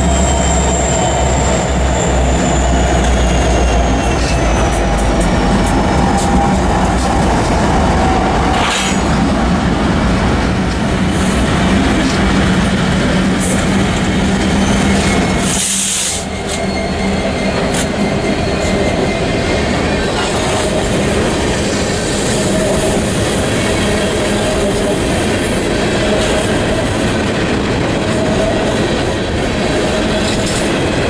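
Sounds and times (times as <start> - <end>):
diesel locomotives rumbling: 0.0 - 31.0
train wheels clacking on rails: 0.0 - 31.0.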